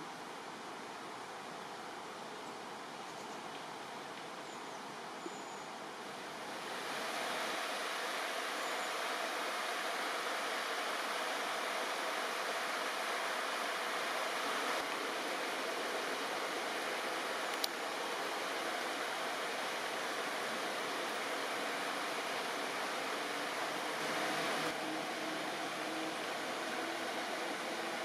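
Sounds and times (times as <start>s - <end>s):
river water rushing: 4.9s - 28.0s.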